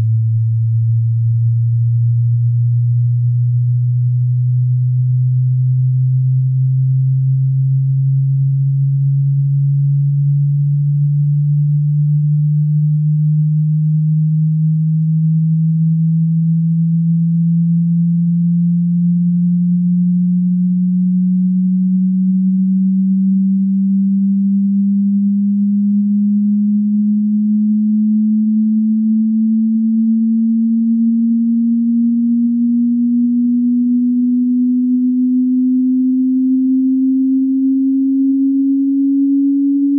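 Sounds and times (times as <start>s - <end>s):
sine tone sweeping upward: 0.0s - 39.9s.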